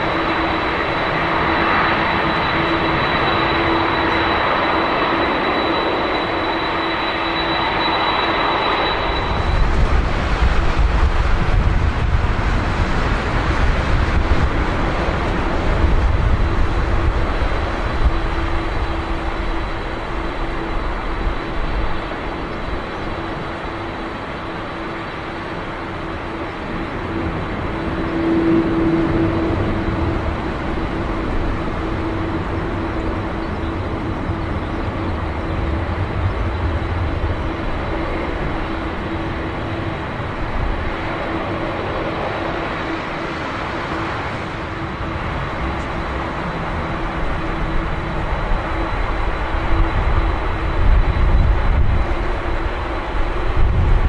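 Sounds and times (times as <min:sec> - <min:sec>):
constant low hum: 0:00.0 - 0:54.0
jet engines running: 0:00.0 - 0:54.0.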